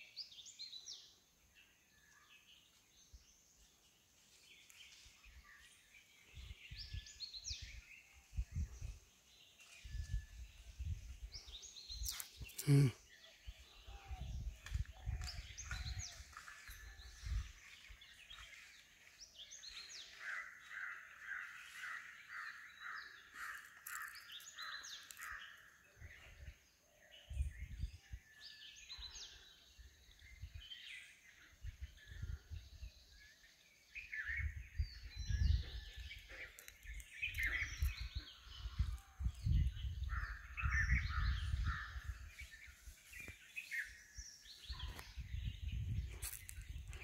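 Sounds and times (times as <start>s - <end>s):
birds calling and chirping: 0.0s - 47.0s.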